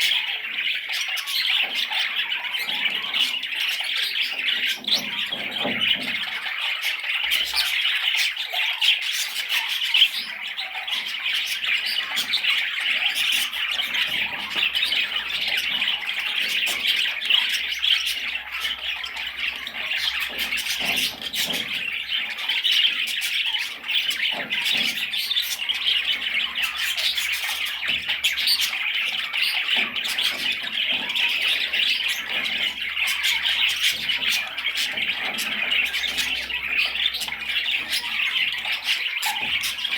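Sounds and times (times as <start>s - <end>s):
budgerigar chirps and squawks: 0.0s - 39.9s.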